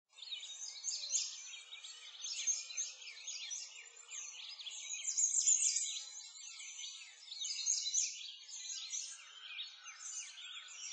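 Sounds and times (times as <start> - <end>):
small birds chirping: 0.1 - 10.9.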